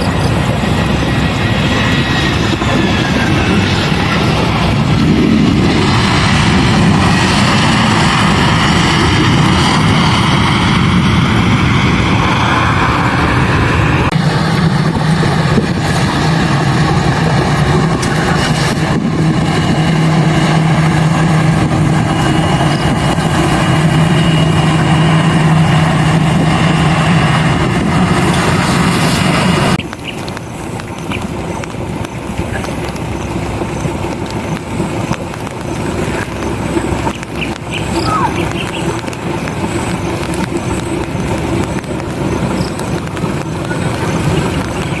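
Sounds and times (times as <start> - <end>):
steady engine hum: 0.0 - 45.0.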